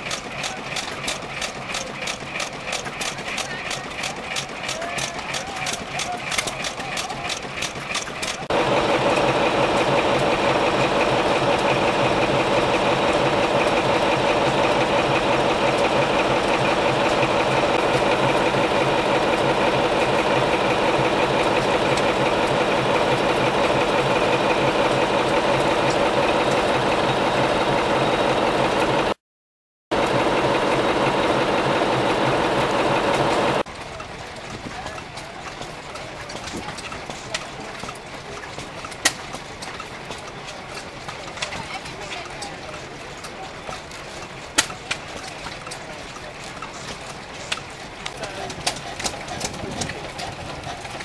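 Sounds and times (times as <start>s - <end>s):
large stationary engine idling: 0.0s - 29.2s, 29.9s - 51.0s.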